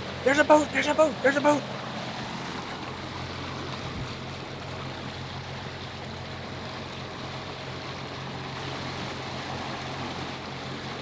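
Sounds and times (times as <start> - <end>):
boat engine droning: 0.0 - 11.0
water rushing past hull: 0.0 - 11.0.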